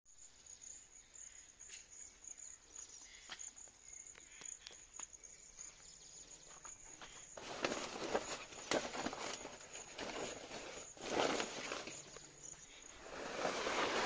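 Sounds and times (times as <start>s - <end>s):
insects chirring: 0.1s - 14.0s.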